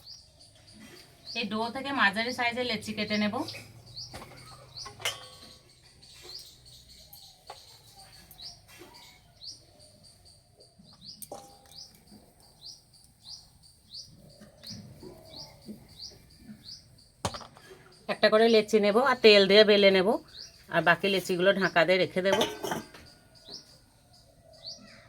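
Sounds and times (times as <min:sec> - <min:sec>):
small bird chirping: 0:00.0 - 0:25.0.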